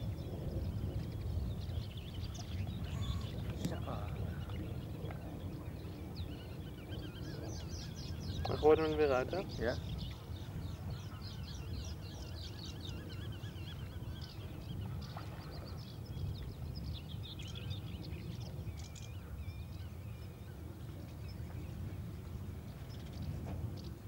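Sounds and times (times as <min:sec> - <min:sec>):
songbirds warbling and chirping: 0:00.0 - 0:24.0.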